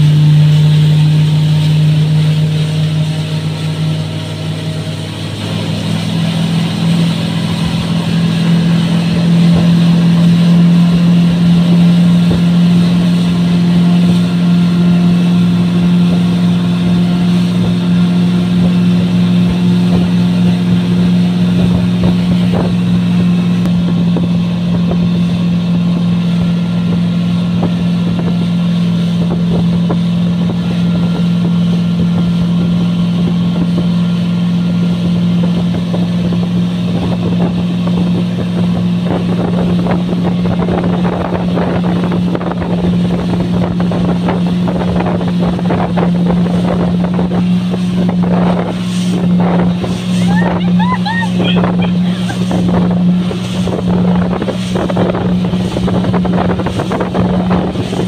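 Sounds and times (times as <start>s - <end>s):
outboard motor droning: 0.0s - 58.0s
rush of boat wake and spray: 0.0s - 58.0s.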